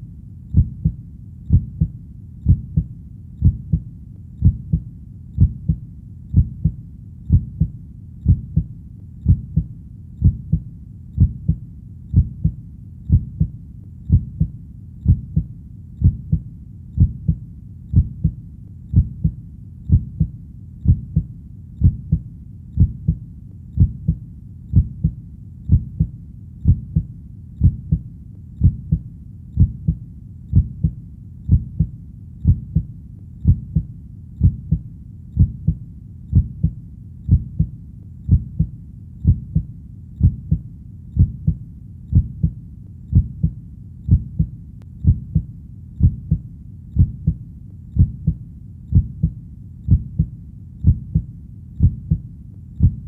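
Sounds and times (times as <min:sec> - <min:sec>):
heartbeat thumping: 0:00.0 - 0:53.0.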